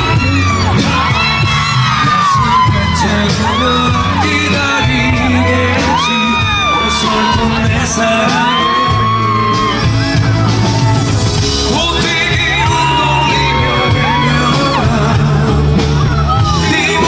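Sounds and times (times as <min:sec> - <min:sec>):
man singing long notes: 0:00.0 - 0:10.8, 0:11.6 - 0:17.0
live rock band playing: 0:00.0 - 0:17.0.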